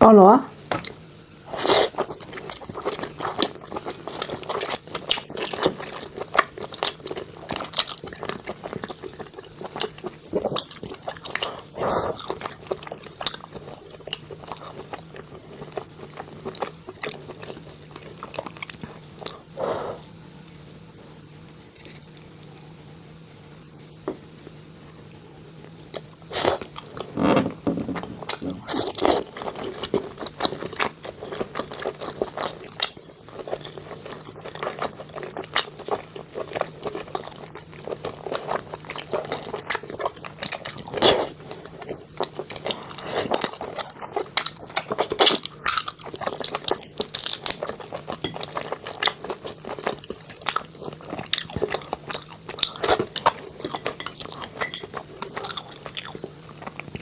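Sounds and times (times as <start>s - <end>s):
person chewing crunchy food: 0.8s - 22.4s, 25.7s - 57.0s.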